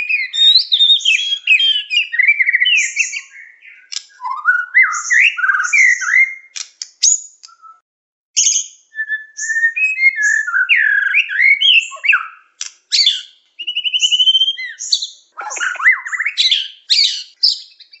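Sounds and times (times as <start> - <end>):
songbird singing whistles and trills: 0.0 - 7.8, 8.4 - 18.0.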